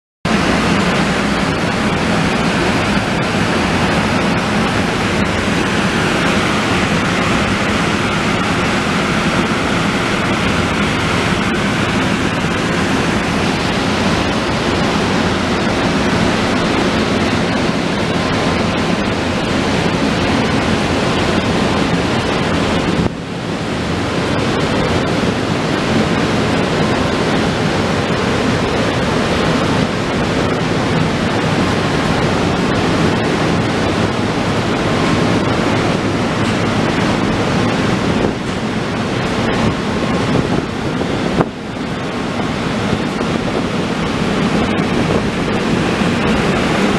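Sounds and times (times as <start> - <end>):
cooling blowers rushing air: 0.2 - 46.9.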